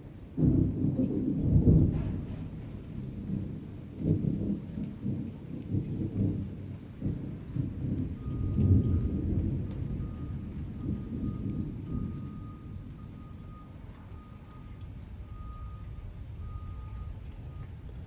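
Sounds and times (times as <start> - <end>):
rainstorm: 0.0 - 18.0
thunder rumbling: 0.4 - 18.0.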